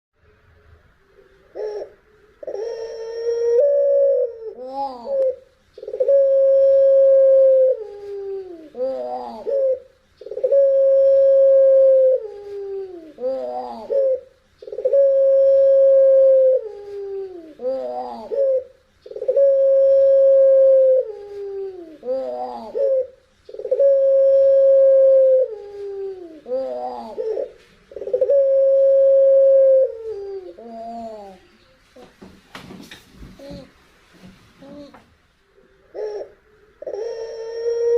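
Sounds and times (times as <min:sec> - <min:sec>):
dove cooing: 0:01.2 - 0:31.5, 0:35.6 - 0:37.9.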